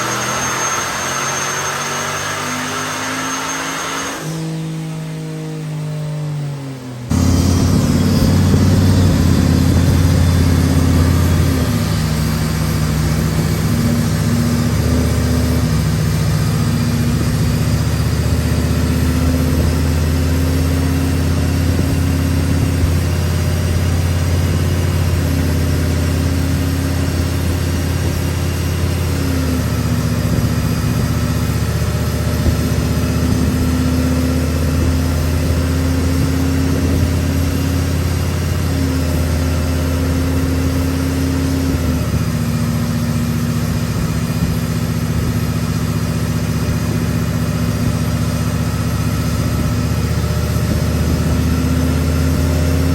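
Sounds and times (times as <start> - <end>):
truck engine running: 7.1 - 52.9.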